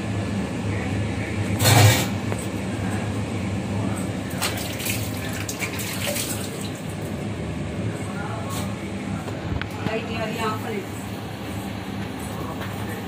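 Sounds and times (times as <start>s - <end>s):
gas flame and simmering food: 0.0s - 13.0s.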